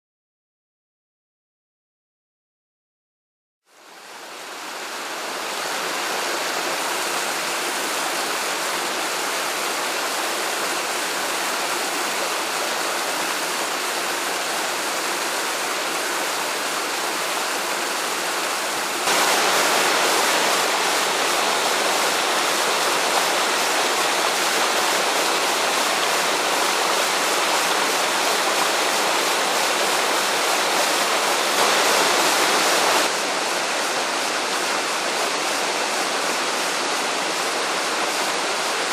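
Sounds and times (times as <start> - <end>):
waterfall rushing: 3.8 - 38.9.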